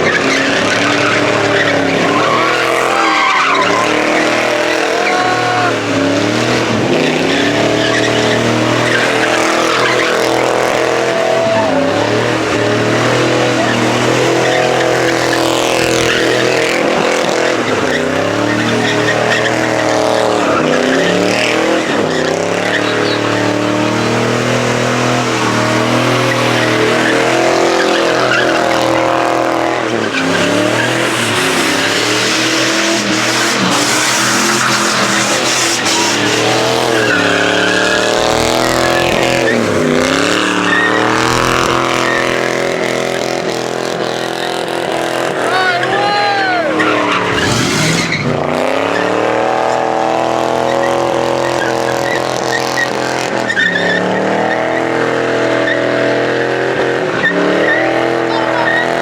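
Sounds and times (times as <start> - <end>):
engine revving high: 0.0 - 59.0
tyres squealing on pavement: 0.0 - 59.0.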